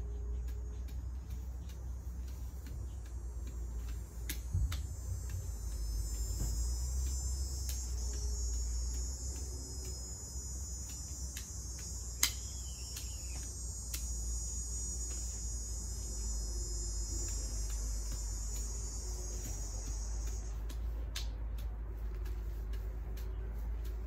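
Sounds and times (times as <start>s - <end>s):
insects chorus: 0.0s - 21.4s.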